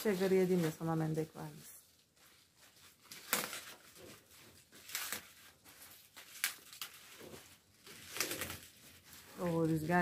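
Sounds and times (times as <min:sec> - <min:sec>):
leafy greens rustling: 0:00.0 - 0:10.0
plastic sack rustling: 0:00.0 - 0:10.0.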